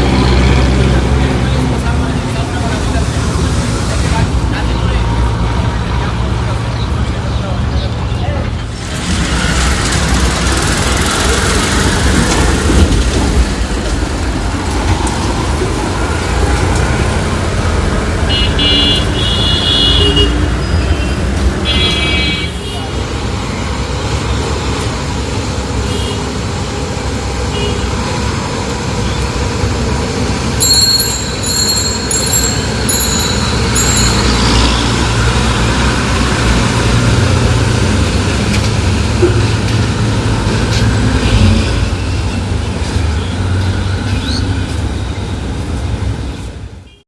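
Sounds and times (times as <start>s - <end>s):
diesel truck engine rumbling: 0.0s - 46.7s
road traffic noise: 0.0s - 47.0s.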